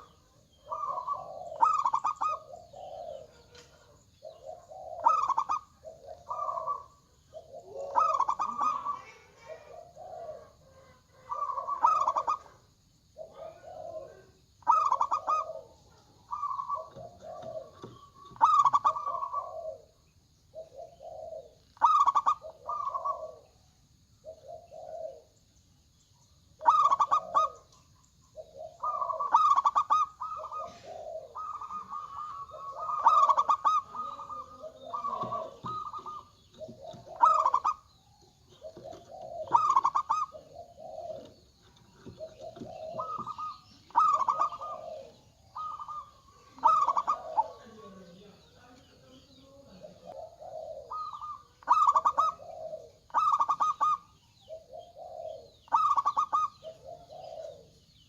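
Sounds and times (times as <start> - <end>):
doves cooing: 0.0 - 58.0
faint steady high hiss: 0.0 - 58.0.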